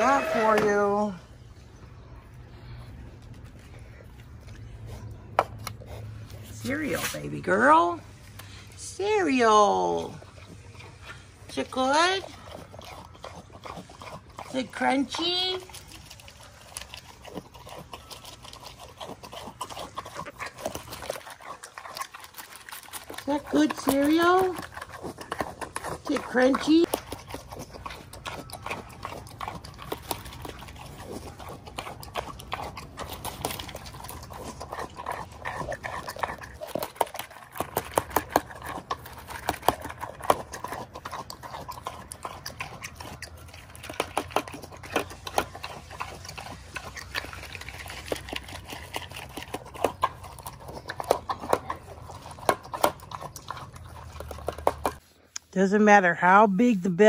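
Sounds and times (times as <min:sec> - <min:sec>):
pig crunching and chewing: 0:00.0 - 0:57.0.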